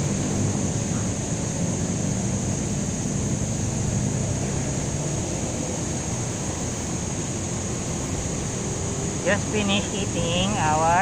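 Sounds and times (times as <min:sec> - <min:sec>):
constant high hiss: 0:00.0 - 0:11.0.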